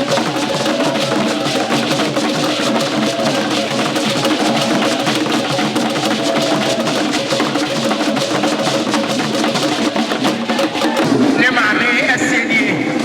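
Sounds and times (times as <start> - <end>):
drum ensemble: 0.0 - 13.0.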